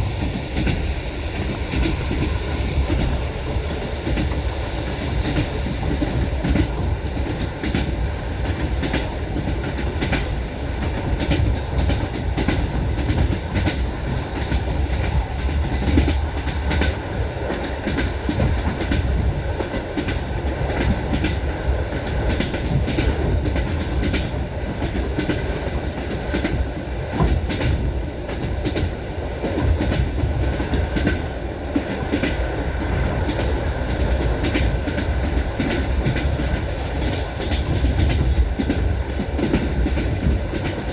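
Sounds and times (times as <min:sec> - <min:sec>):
train wheels clacking over rail joints: 0:00.0 - 0:40.9.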